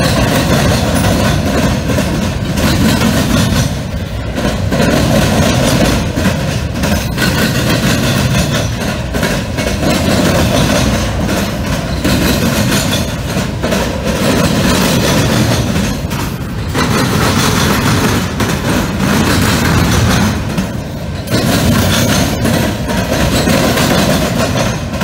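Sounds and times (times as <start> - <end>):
train wheels rumbling on rail: 0.0 - 25.0
wheels and couplers clanking: 0.0 - 25.0.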